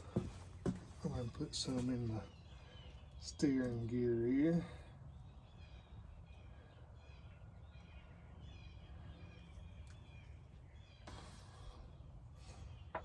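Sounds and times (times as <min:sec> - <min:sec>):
faint birdsong chirping: 0:00.0 - 0:13.0.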